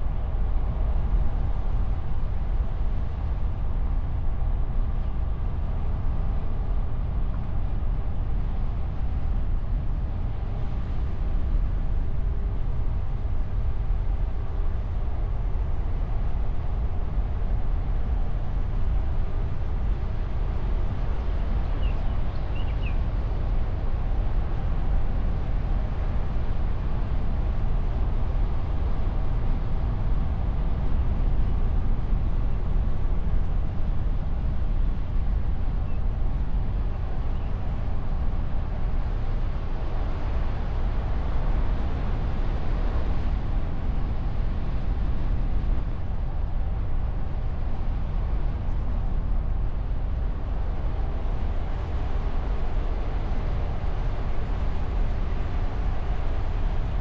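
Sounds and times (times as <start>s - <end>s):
car engine and tyre rumble: 0.0s - 57.0s
wind on microphone: 0.0s - 57.0s.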